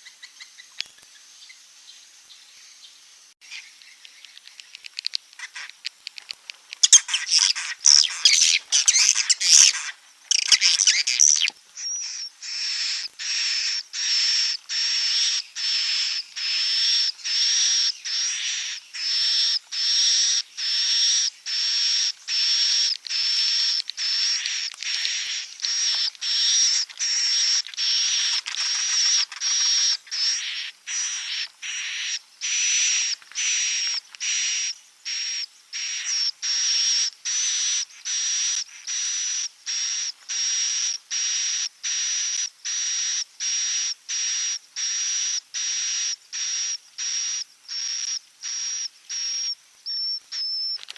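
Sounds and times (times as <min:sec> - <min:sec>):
high twittering bird chirps: 0:00.0 - 0:39.0, 0:46.3 - 0:50.8
high buzzy bird chirp: 0:00.0 - 0:50.8.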